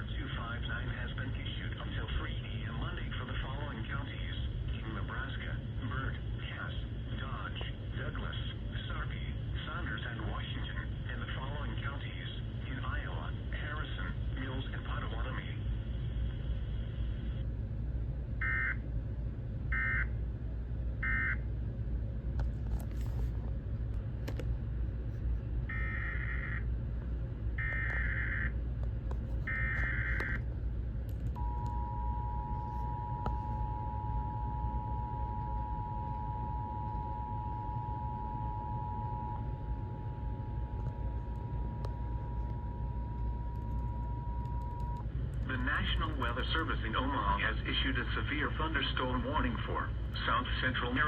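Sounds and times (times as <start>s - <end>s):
radio hiss and rumble: 0.0s - 51.0s.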